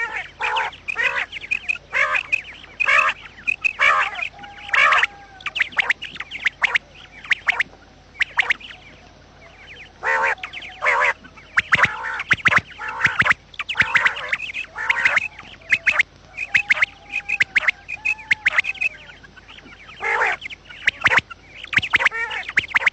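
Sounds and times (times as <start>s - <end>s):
quails chattering calls: 0.0s - 22.9s.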